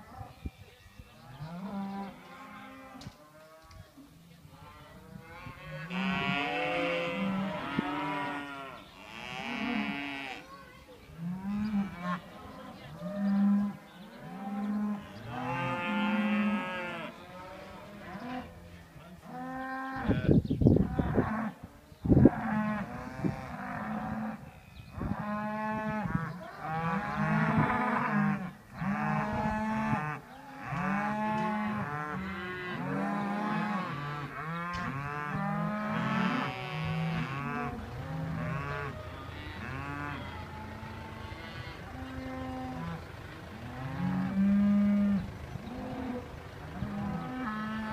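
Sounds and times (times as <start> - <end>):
cattle mooing: 4.8 - 10.4, 11.2 - 18.6, 22.2 - 47.9.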